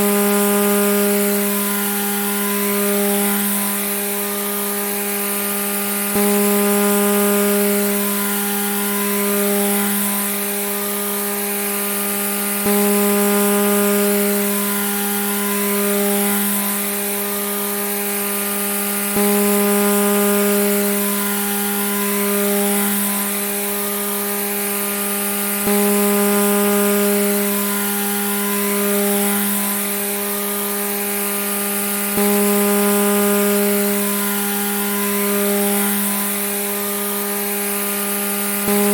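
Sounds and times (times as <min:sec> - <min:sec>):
grass trimmer buzzing: 0:00.0 - 0:38.9.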